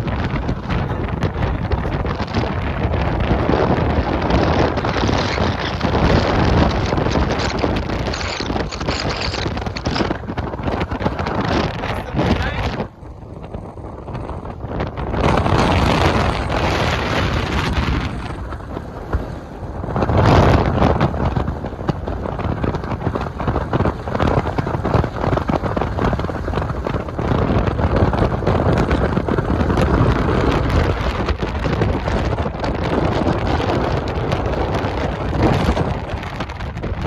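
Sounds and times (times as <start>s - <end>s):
rain pattering: 0.0s - 37.0s
strong wind on microphone: 0.0s - 37.0s.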